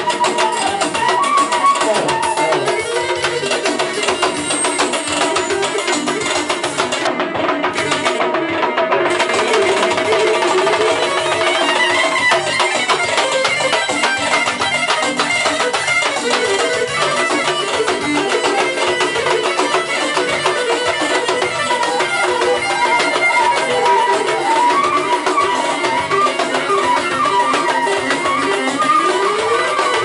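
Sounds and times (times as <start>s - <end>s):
drums beating quick rhythm: 0.0s - 30.0s
live band dance music: 0.0s - 30.0s.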